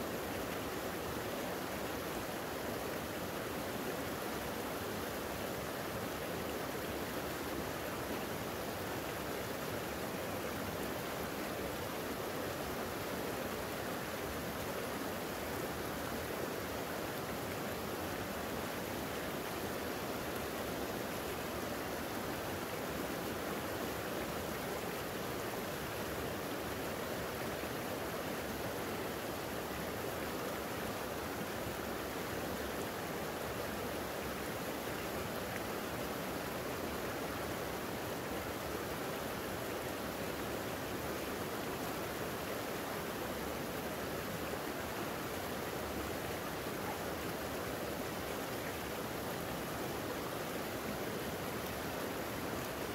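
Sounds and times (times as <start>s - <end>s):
creek flowing: 0.0s - 52.9s.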